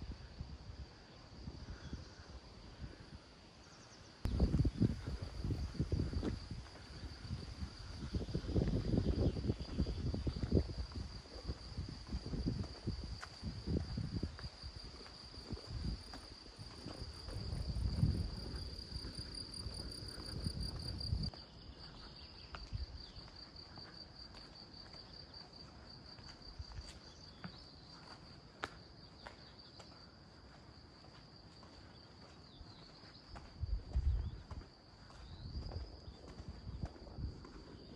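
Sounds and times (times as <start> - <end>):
insects chirring: 0.1 - 37.9.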